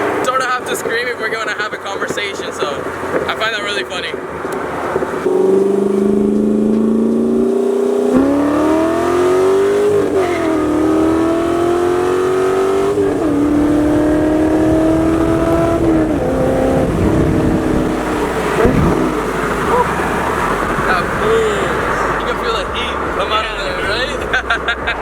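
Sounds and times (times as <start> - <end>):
car engine shifting through gears: 0.0 - 25.0.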